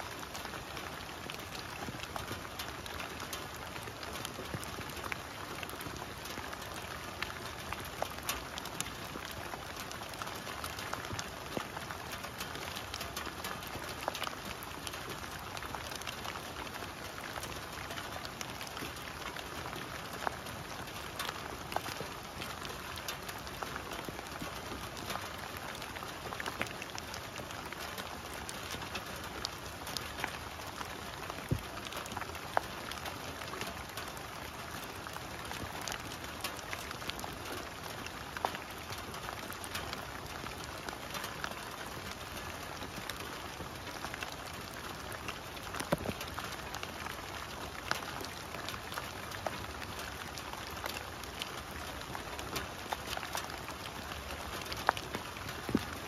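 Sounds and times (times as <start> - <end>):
rain on leaves and grass: 0.0 - 56.0.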